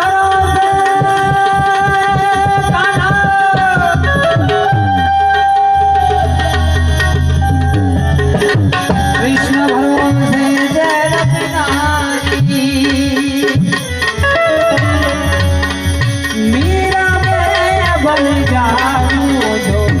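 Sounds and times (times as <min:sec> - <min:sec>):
harmonium melody: 0:00.0 - 0:20.0
tabla strokes: 0:00.0 - 0:20.0.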